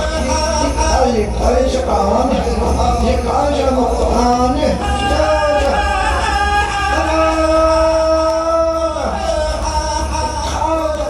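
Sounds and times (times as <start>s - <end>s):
low musical accompaniment: 0.0s - 11.0s
person singing with gliding notes: 0.0s - 11.0s.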